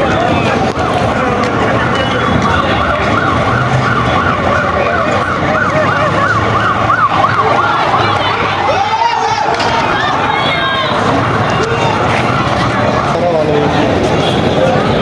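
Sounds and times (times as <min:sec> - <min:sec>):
siren yelping: 0:00.0 - 0:15.0.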